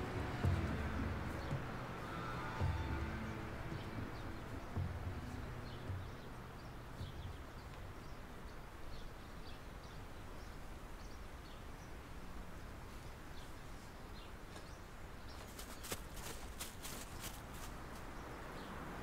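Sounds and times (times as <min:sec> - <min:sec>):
small birds chirping: 0:00.0 - 0:19.0
steady outdoor hiss: 0:00.0 - 0:19.0.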